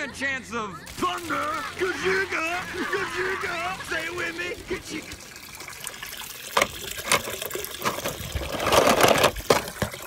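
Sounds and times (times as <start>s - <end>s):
water splashing and trickling: 0.9s - 10.0s.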